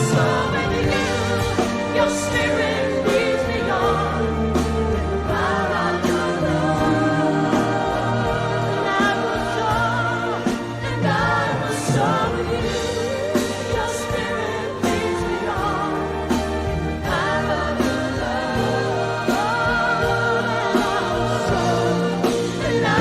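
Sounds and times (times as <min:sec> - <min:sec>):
band with steady beat: 0:00.0 - 0:23.0
voices singing worship song: 0:00.0 - 0:23.0.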